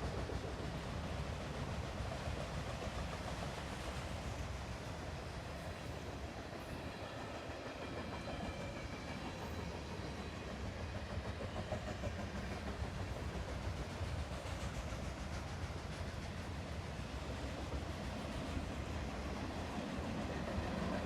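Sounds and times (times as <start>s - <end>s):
freight train rumbling past: 0.0s - 21.0s
train wheels clickety-clack: 0.0s - 21.0s.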